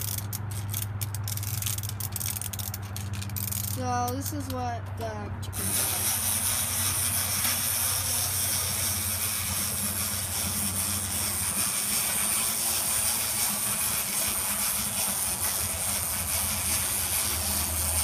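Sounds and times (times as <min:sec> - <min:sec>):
clockwork toy motor whirring: 0:00.0 - 0:04.6, 0:05.5 - 0:18.0.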